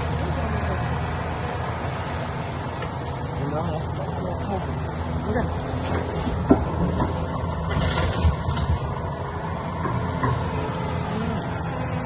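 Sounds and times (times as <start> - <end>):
diesel machinery rumbling: 0.0 - 12.0.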